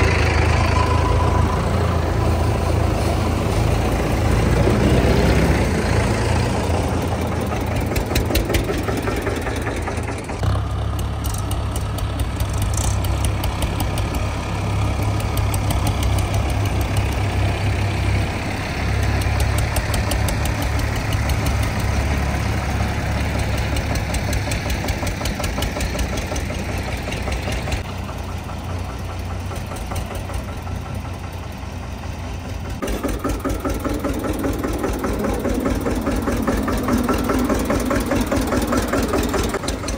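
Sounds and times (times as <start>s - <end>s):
diesel tractor engines under load: 0.0s - 39.9s.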